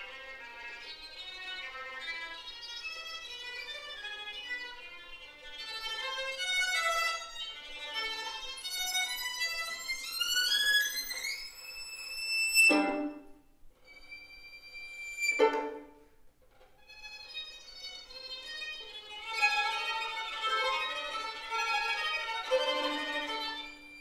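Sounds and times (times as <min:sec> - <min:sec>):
solo violin playing: 0:00.0 - 0:24.0.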